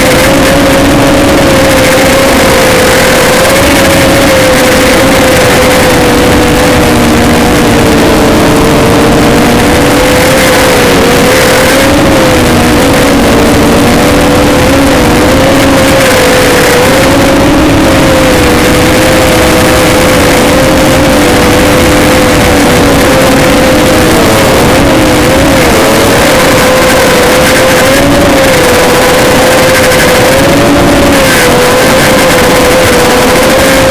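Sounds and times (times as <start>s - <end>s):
rushing noise: 0.0s - 33.9s.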